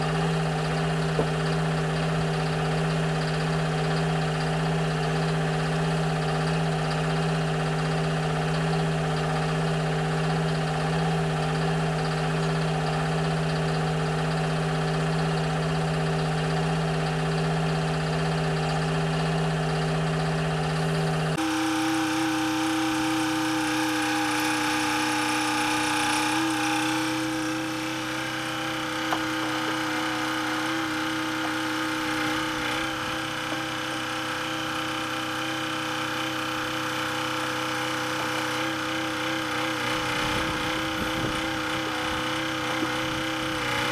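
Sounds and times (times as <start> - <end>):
excavator diesel engine idling: 0.0 - 43.9.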